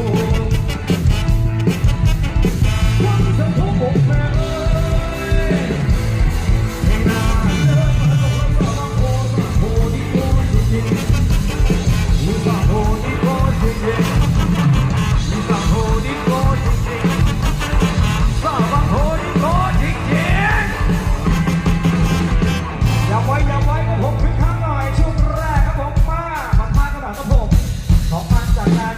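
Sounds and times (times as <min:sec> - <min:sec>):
live dance band playing: 0:00.0 - 0:28.9.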